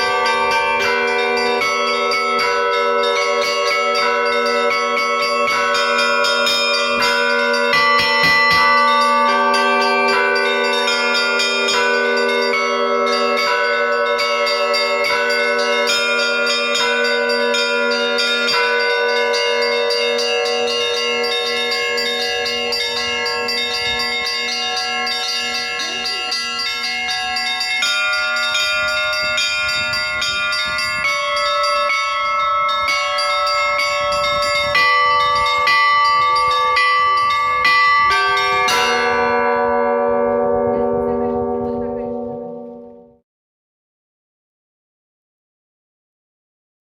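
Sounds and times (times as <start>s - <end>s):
deep bell humming: 0.0s - 43.2s
small church bells striking: 0.0s - 43.2s.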